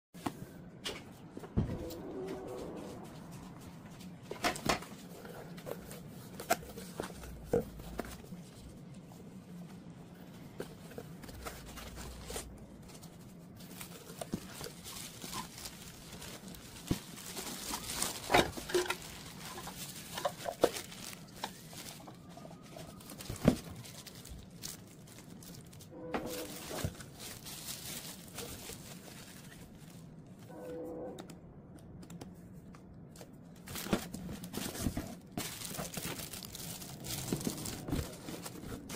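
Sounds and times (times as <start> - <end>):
cardboard and plastic rustling: 0.2 - 30.6, 32.0 - 38.9.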